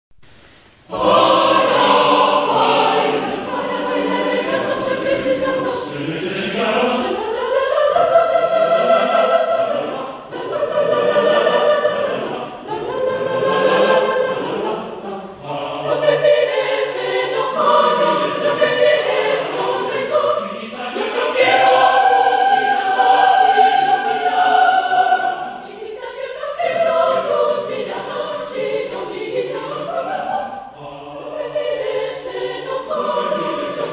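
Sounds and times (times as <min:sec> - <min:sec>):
mixed choir singing: 0:00.8 - 0:33.9.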